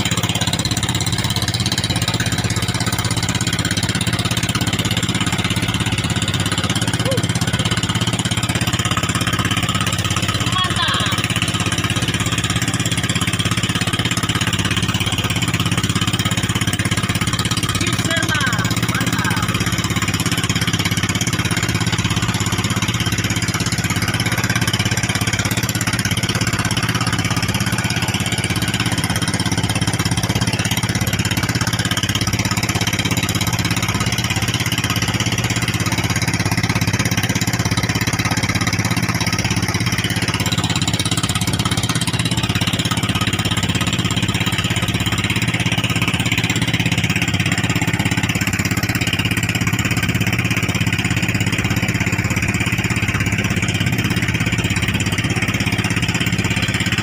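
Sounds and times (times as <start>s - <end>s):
boat engine droning: 0.0s - 57.0s
wind: 0.0s - 57.0s.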